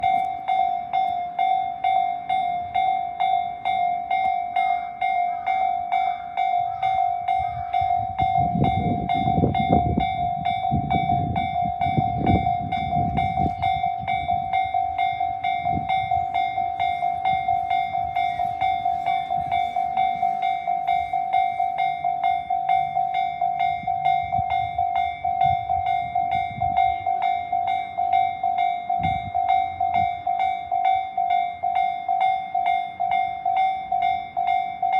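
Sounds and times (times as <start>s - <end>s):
railroad crossing bells ringing: 0.0s - 34.9s.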